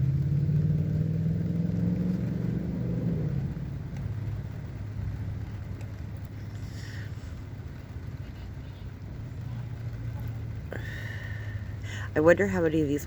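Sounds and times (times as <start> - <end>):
car engine running: 0.0 - 13.0
low steady rumble: 0.0 - 13.0.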